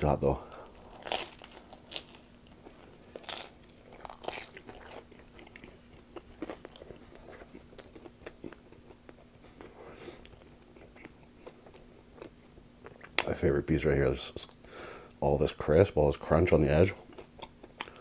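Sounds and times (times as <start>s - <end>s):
chewing crunchy pizza crust: 0.4s - 13.7s, 15.5s - 18.0s.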